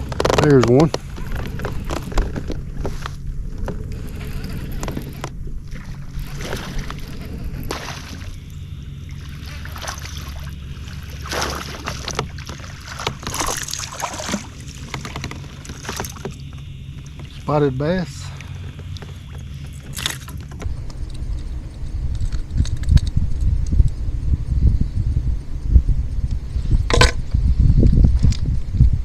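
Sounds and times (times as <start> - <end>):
noisy bursts: 0.0 - 26.2
steady low hum: 0.0 - 29.0.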